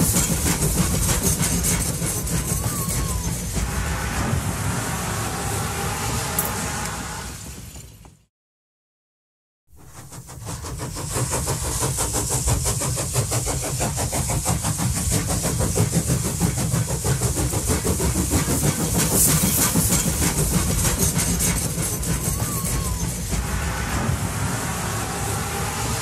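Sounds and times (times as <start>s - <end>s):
train running: 0.0s - 8.3s, 9.7s - 26.0s.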